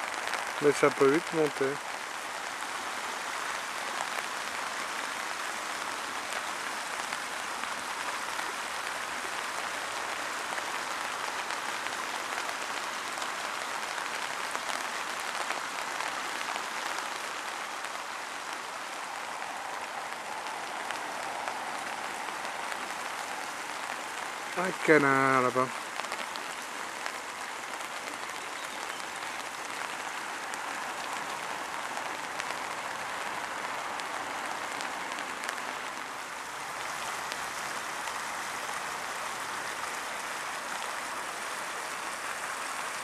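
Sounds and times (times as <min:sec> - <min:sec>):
rain falling: 0:00.0 - 0:43.0
stream rushing over stones: 0:00.0 - 0:43.0.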